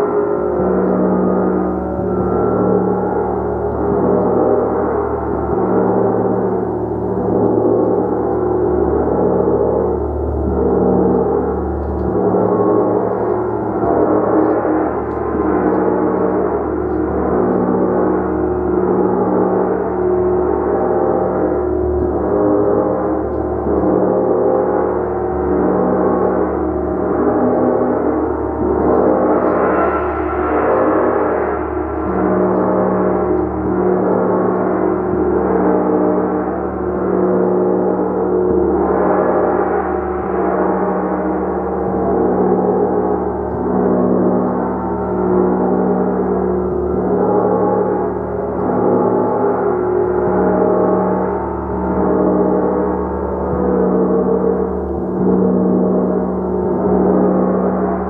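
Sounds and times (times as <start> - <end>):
large gong ringing: 0.0 - 58.0.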